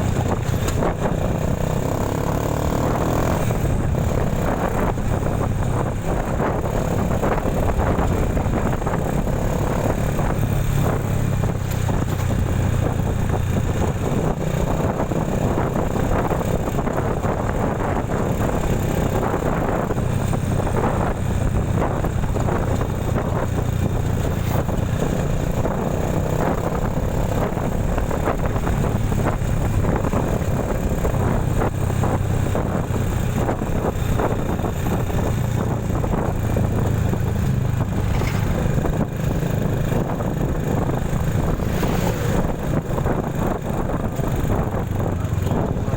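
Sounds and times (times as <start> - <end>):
road noise: 0.0 - 45.9
vehicle engine running: 0.0 - 45.9.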